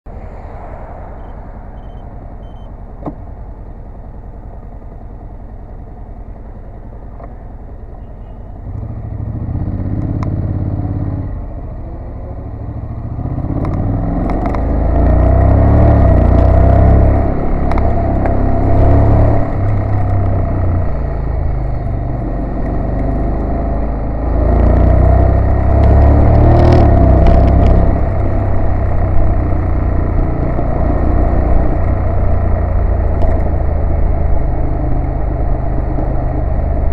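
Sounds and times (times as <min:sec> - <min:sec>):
motorcycle engine accelerating: 0:00.4 - 0:36.9.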